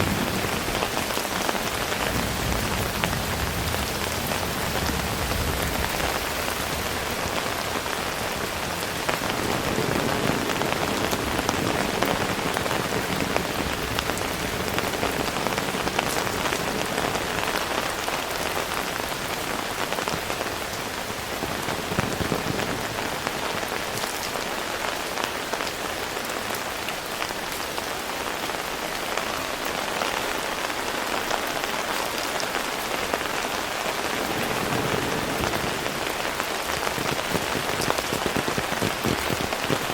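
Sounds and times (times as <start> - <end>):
heavy rain hissing: 0.0 - 39.9
raindrops ticking on surfaces: 0.0 - 39.9.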